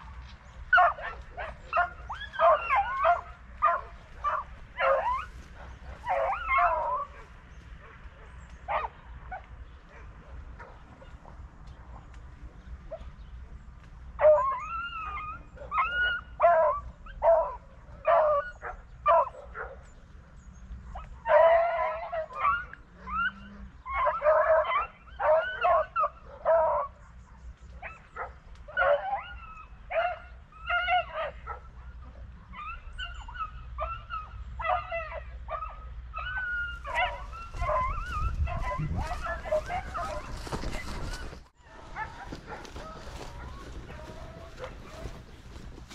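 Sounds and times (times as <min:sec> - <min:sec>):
dogs baying and yelping: 0:00.0 - 0:45.9.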